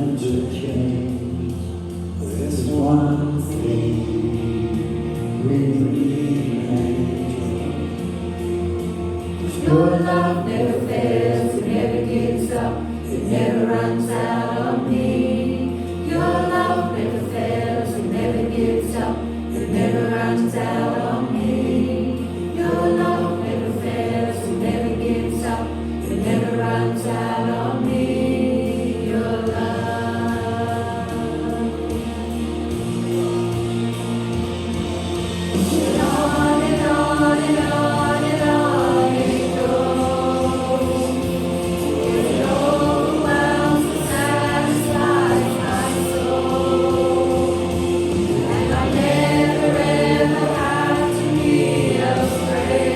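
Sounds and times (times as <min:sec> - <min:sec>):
group singing: 0:00.0 - 0:52.9
sustained bass notes: 0:00.0 - 0:52.9
worship band playing: 0:00.0 - 0:52.9.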